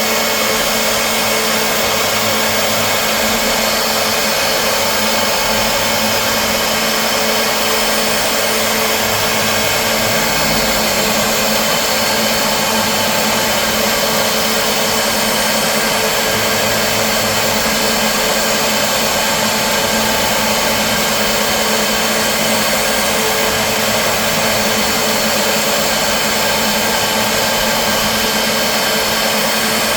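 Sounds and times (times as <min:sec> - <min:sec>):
cnc machine motor whine: 0:00.0 - 0:29.9.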